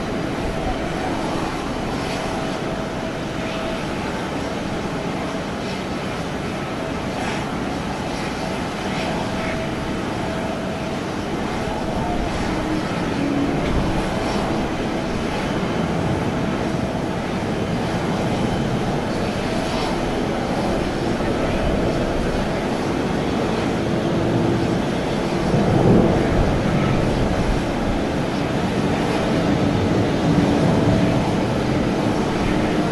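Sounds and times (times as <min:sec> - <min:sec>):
faint jet whine: 0:00.0 - 0:32.9
jet engine rush: 0:00.0 - 0:32.9.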